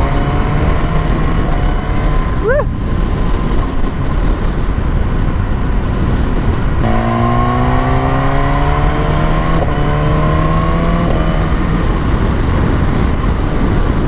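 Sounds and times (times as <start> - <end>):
motorcycle engine accelerating: 0.0 - 14.0
wind and road rush: 0.0 - 14.0.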